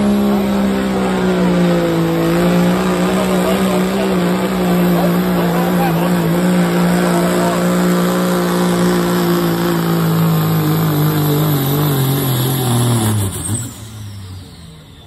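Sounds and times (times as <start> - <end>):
diesel engine at full throttle: 0.0 - 15.0.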